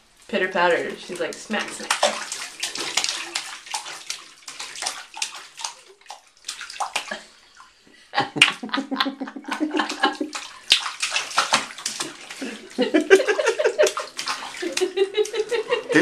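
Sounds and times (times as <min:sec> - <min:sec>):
baby slapping bathwater: 0:00.0 - 0:16.0.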